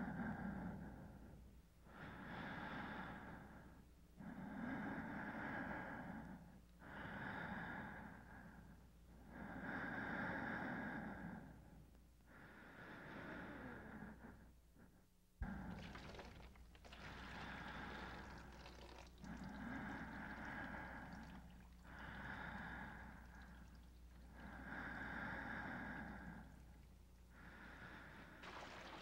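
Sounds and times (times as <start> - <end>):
person breathing slowly: 0.0 - 29.0.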